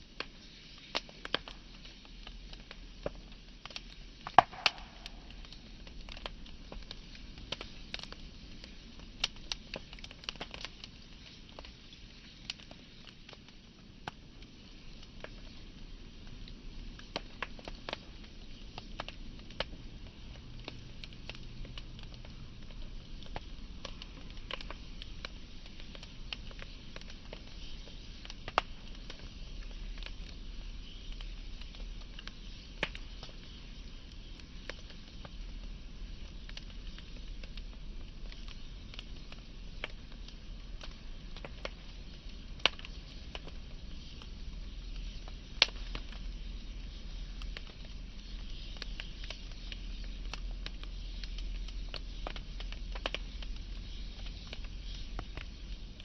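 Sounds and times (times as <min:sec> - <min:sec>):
flame hissing: 0:00.0 - 0:56.0
wood fire crackling and popping: 0:00.0 - 0:56.0.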